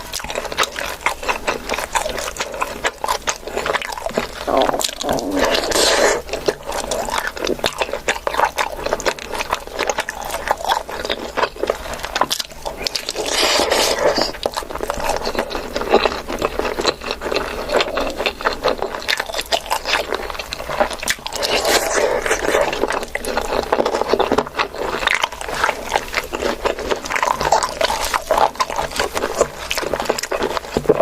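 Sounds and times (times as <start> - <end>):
chewing with clicks and smacks: 0.0 - 31.0.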